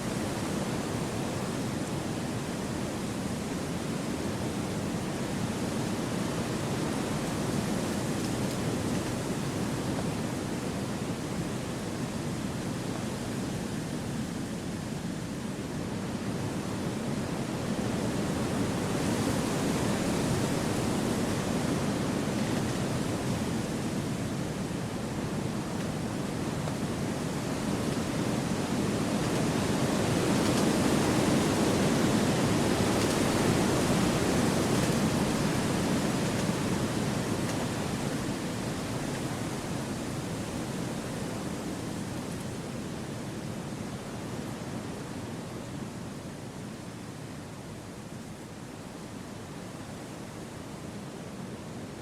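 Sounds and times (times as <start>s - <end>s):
wind rushing through trees: 0.0s - 52.0s.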